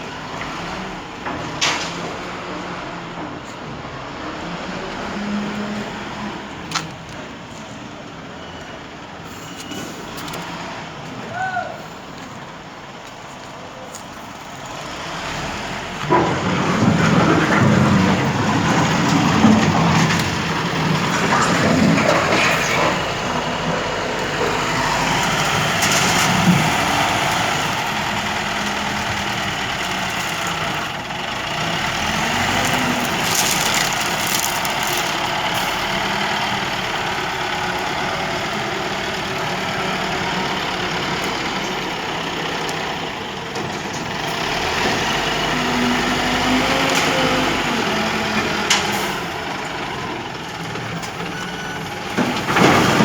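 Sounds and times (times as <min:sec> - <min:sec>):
heavy engine idling: 0:00.0 - 0:53.0.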